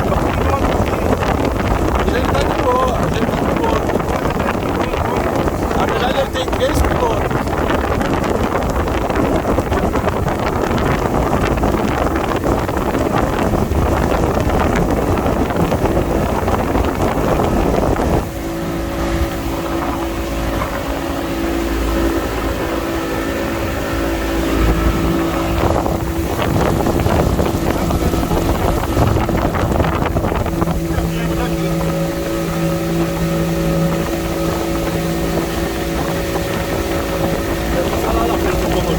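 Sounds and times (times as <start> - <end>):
motorboat engine humming: 0.0 - 38.9
wind and water rushing: 0.0 - 38.9.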